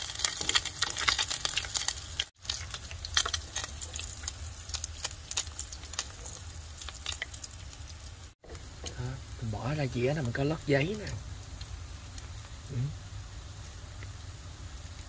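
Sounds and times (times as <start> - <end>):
crackles and pops of frying: 0.0 - 15.0
fish frying in hot oil: 0.0 - 15.0.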